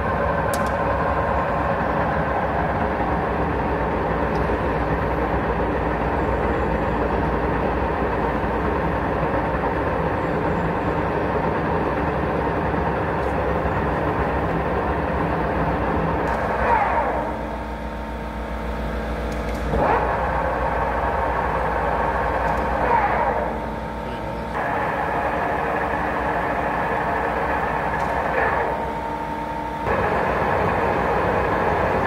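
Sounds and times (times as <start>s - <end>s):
lathe whirring: 0.0s - 32.0s.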